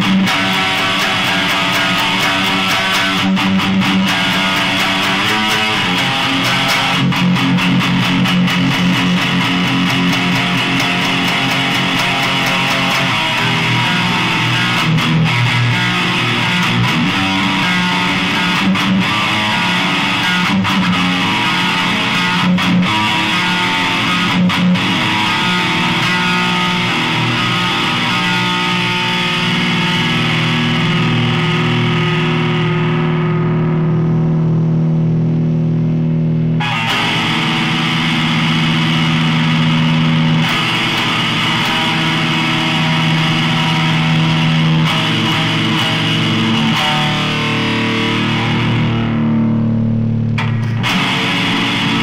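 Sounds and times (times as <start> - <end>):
distorted electric guitar band music: 0.0 - 52.0.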